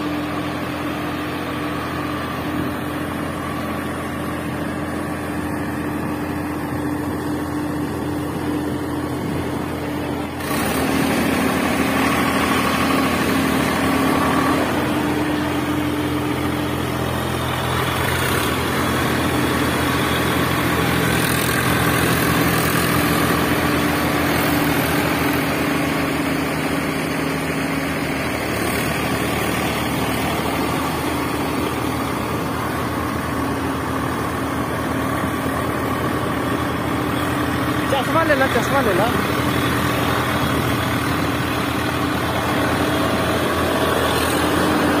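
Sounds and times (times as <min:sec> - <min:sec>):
engine idling: 0:00.0 - 0:45.0.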